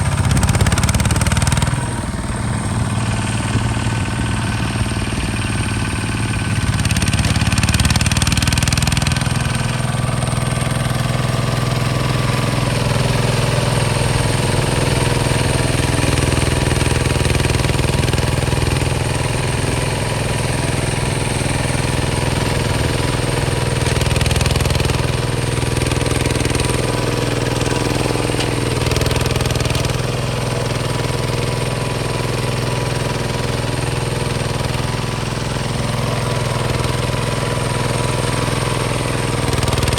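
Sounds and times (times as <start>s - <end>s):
diesel tractor engine knocking: 0.0s - 39.9s.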